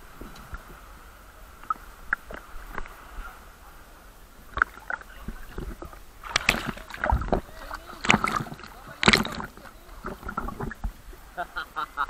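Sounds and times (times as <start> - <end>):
sea surf: 0.0 - 12.0.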